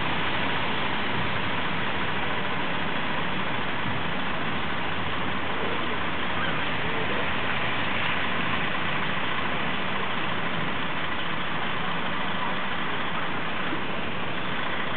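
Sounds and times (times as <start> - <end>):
city street traffic: 0.0 - 14.9.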